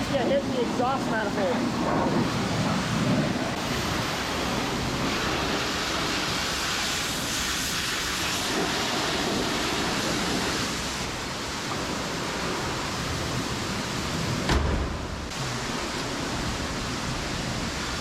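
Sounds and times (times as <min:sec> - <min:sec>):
pressure washer water spray: 0:01.6 - 0:18.0.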